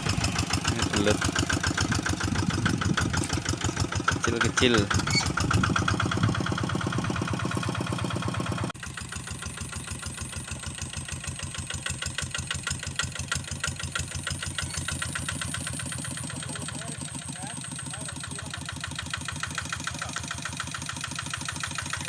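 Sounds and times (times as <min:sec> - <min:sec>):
hand tractor engine running: 0:00.0 - 0:22.0.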